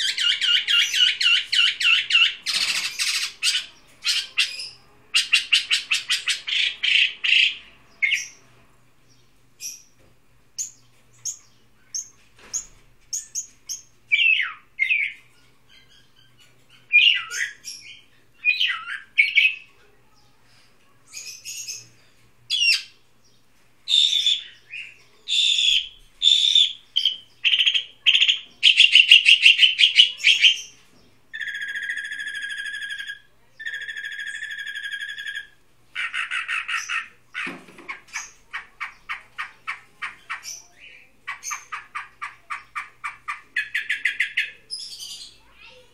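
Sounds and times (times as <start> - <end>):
songbird singing and trilling: 0.0 - 10.0, 10.6 - 20.4, 21.1 - 45.9.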